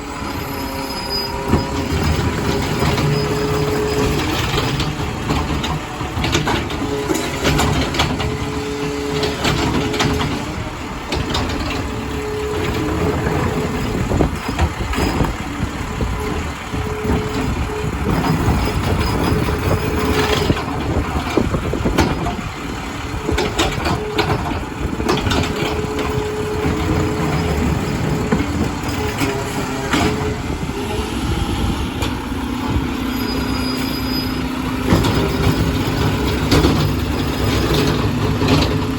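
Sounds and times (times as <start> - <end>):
diesel engine running: 0.0 - 38.9
metal clanks and knocks: 1.4 - 30.7, 34.7 - 38.9.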